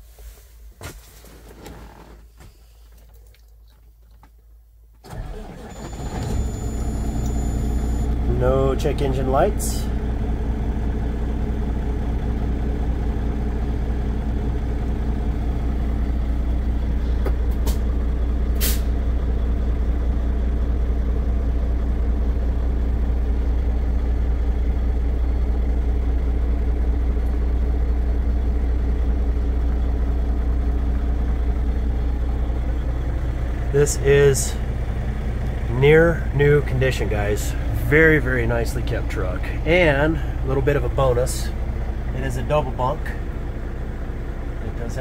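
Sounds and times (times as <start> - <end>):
diesel engine idling: 5.1 - 45.0.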